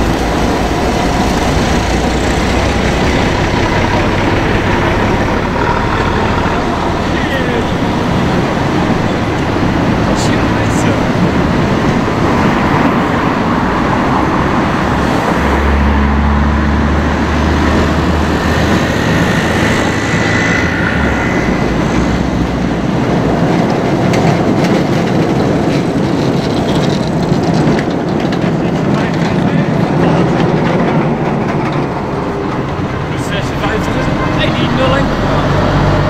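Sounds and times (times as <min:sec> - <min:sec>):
city traffic: 0:00.0 - 0:36.0
tram passing: 0:00.0 - 0:36.0
tram wheels clicking on rails: 0:00.0 - 0:36.0.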